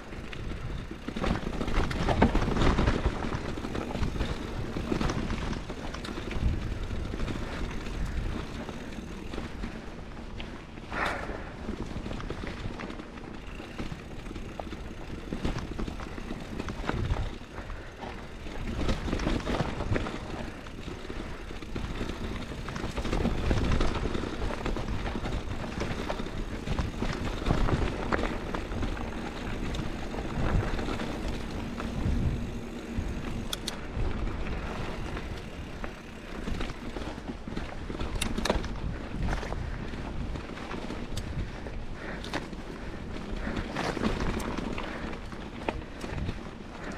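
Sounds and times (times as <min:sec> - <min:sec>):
bike knocking and rattling: 0:00.0 - 0:46.9
bike tyres rolling on dirt and rock: 0:00.0 - 0:46.9
wind rumble on microphone: 0:00.0 - 0:46.9.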